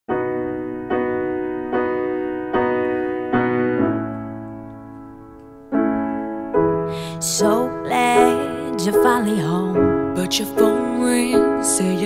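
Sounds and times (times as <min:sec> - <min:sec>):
piano chords: 0:00.1 - 0:12.0.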